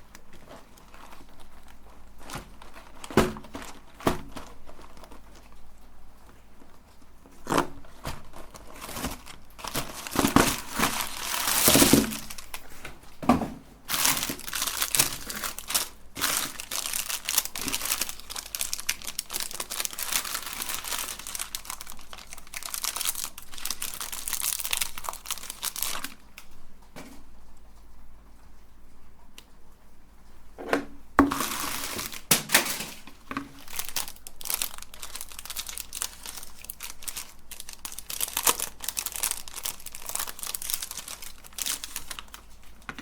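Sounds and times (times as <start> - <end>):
plastic wrapper crinkling and tearing: 0.0 - 13.2, 13.9 - 26.6, 31.2 - 43.0.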